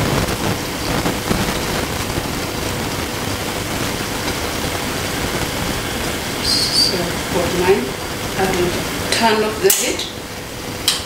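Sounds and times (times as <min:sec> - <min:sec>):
faint steady hum: 0:00.0 - 0:11.0
gas burner hissing: 0:00.0 - 0:11.0
pot simmering: 0:00.0 - 0:11.0.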